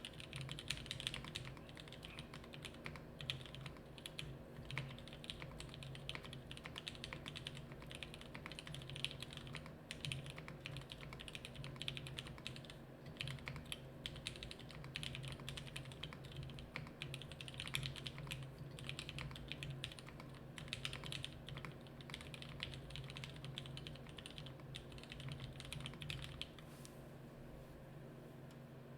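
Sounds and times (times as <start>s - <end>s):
mechanical keyboard typing: 0.0s - 26.6s.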